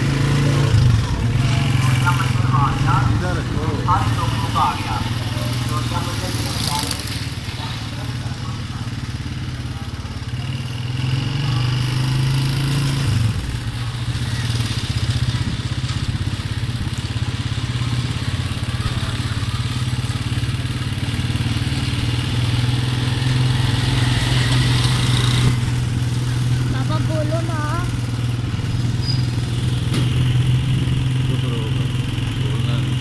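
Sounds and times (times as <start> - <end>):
small motorcycle engine running: 0.0 - 33.0.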